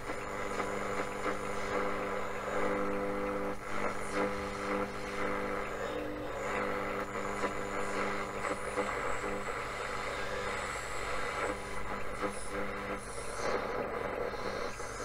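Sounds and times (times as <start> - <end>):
buzzing interference hum: 0.0 - 15.0
radio static: 0.0 - 15.0.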